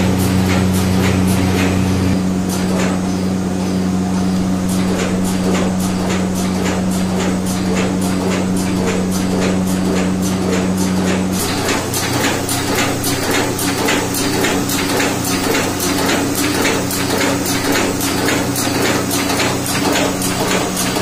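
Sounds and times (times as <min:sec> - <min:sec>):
machine clacking: 0:00.0 - 0:21.0
machine motor hum: 0:00.0 - 0:21.0.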